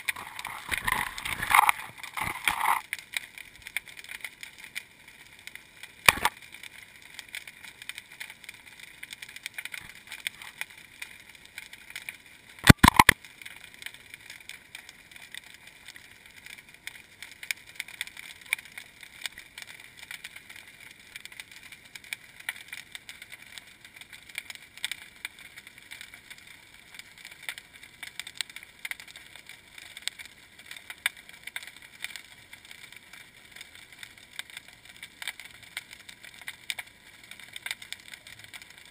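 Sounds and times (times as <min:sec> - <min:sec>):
underwater crackle of fine clicks: 0:00.0 - 0:38.9.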